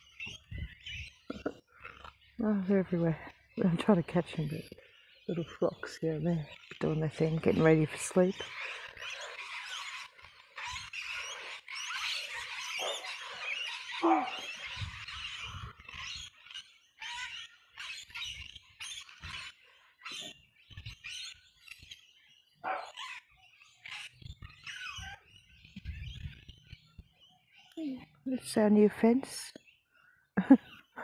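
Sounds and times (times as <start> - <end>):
flock of birds chirping: 0.0 - 31.0.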